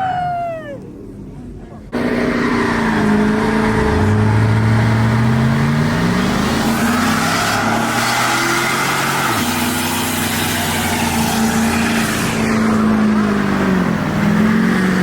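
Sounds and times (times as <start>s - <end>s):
car engine at high revs: 1.9s - 15.0s.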